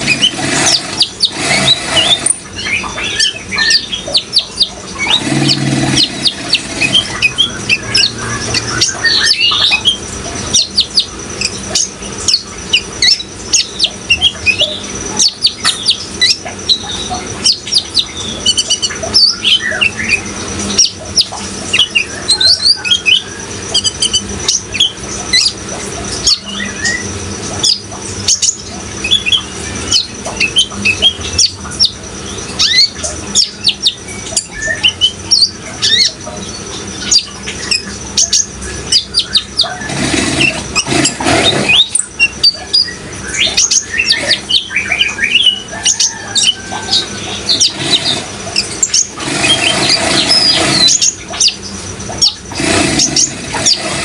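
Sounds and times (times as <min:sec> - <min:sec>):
bird chirping and trilling: 0:00.0 - 0:54.0
running water: 0:00.0 - 0:54.0.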